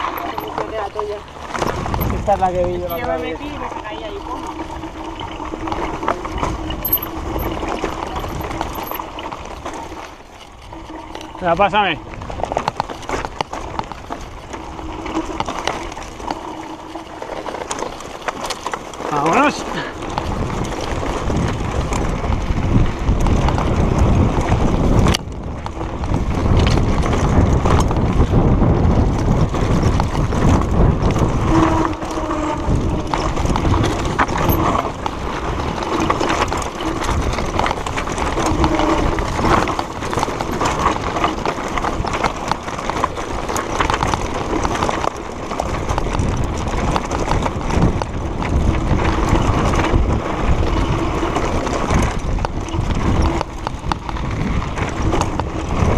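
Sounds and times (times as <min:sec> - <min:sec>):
mountain bike rattling: 0:00.0 - 0:55.9
tyres rumbling on dirt: 0:00.0 - 0:55.9.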